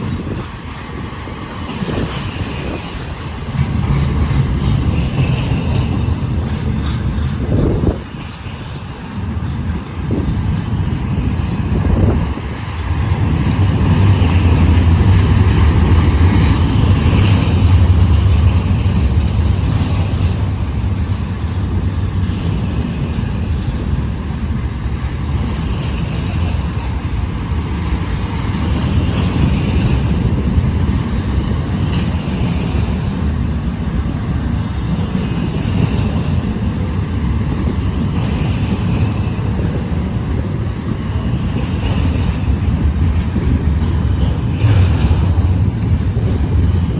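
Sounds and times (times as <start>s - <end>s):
freight train rolling on rails: 0.0s - 46.9s.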